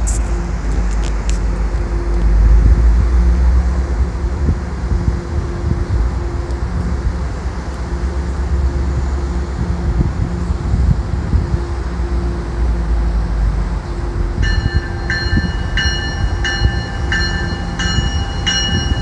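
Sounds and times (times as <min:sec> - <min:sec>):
diesel locomotive engine drone: 0:00.0 - 0:19.0
wind rumble on microphone: 0:00.0 - 0:19.0.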